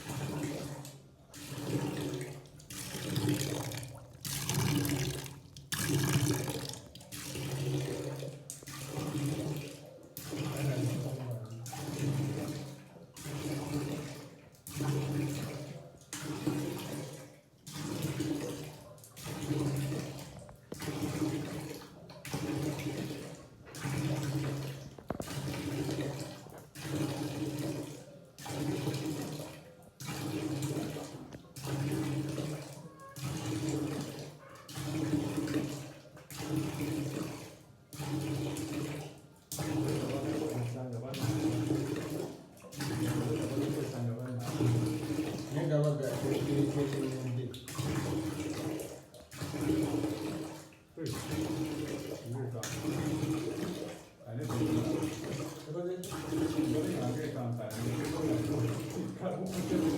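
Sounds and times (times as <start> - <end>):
water gushing in surges: 0.0 - 59.9.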